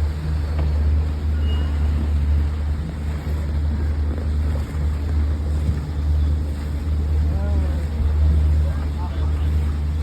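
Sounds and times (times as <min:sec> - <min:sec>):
boat motor running: 0:00.0 - 0:10.0
wind buffeting microphone: 0:00.0 - 0:10.0.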